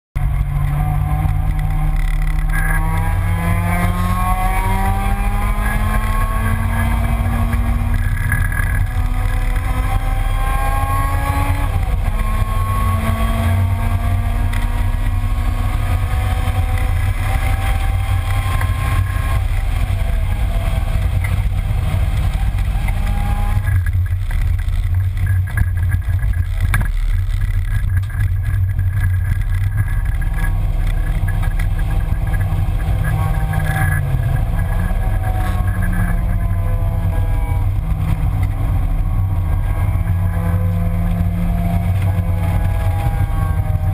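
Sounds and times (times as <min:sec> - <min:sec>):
car engine accelerating: 0:00.2 - 0:43.9
road and wind rumble: 0:00.2 - 0:43.9.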